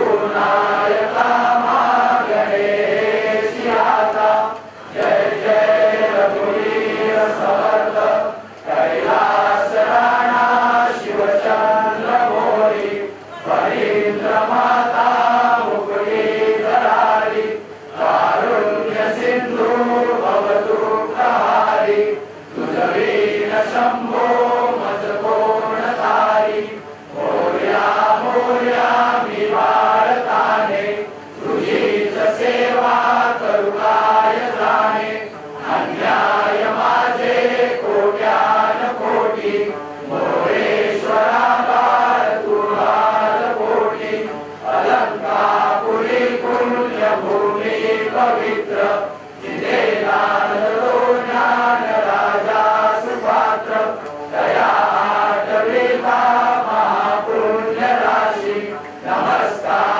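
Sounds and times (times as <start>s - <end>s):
people singing in unison: 0.0s - 59.9s.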